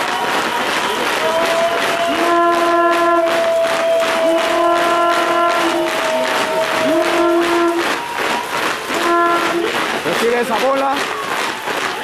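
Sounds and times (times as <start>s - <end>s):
fast steady beat: 0.0s - 12.0s
brass instruments playing: 0.8s - 10.6s.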